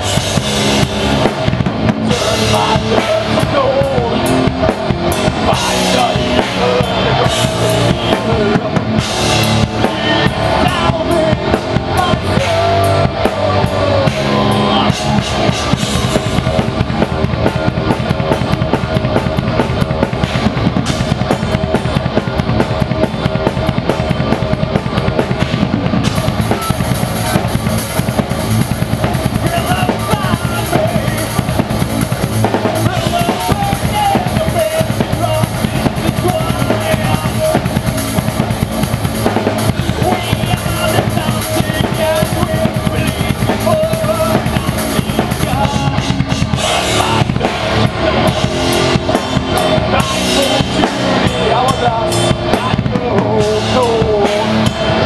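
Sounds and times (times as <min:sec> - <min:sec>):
thrash metal band playing: 0:00.0 - 0:55.0.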